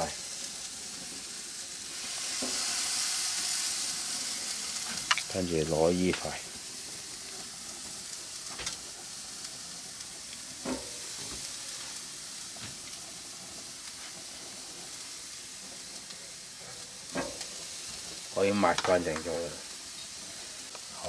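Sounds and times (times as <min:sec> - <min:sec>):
meat sizzling on grill: 0:00.0 - 0:21.0.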